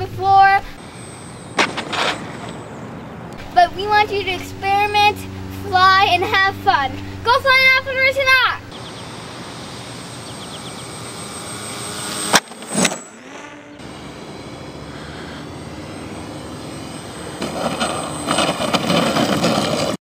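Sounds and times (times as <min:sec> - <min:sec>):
model airplane propellers droning: 0:00.0 - 0:20.0
wheels rolling on asphalt: 0:00.2 - 0:20.0.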